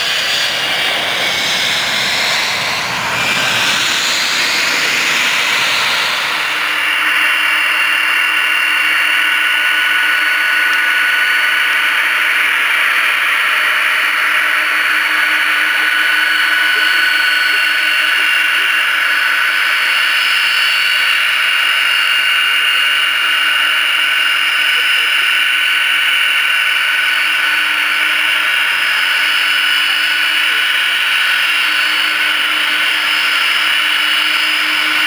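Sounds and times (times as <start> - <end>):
high whining tones: 0.0 - 35.0
jet engines running: 0.0 - 35.0.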